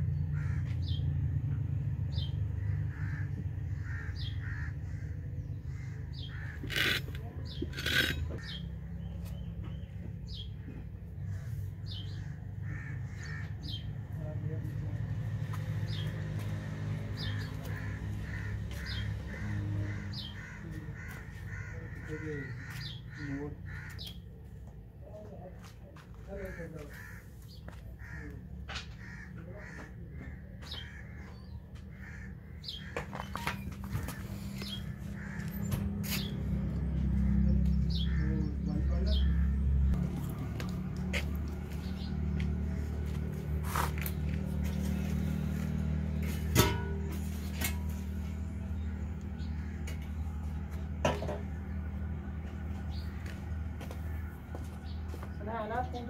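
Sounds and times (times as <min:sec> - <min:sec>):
crows cawing: 0:00.2 - 0:01.0, 0:02.6 - 0:08.6, 0:10.6 - 0:24.8, 0:25.6 - 0:55.4.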